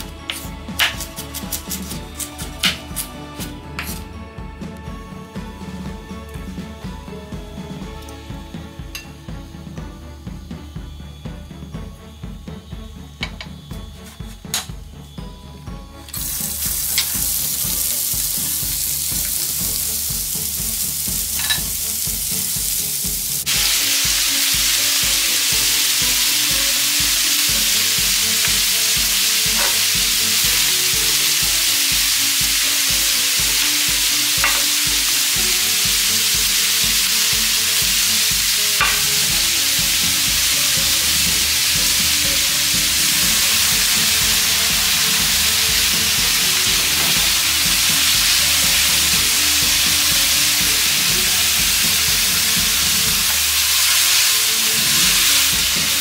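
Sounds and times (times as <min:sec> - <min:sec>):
oil and vegetables sizzling: 0:00.0 - 0:04.1, 0:05.2 - 0:14.7, 0:16.1 - 0:56.0.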